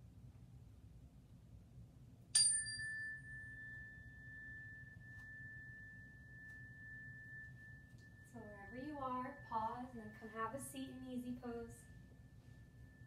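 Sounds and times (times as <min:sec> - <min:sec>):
meditation chime ringing: 0:02.4 - 0:13.0.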